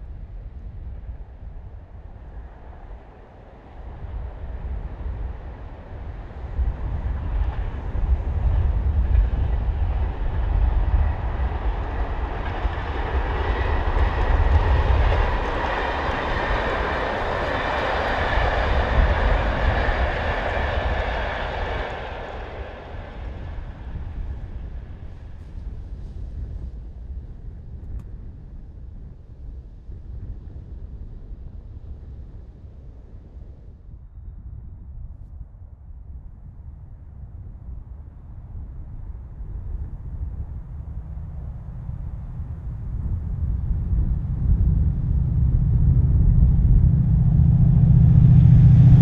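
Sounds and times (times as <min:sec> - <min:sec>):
train passing at speed: 0:00.0 - 0:28.0, 0:37.1 - 0:49.0.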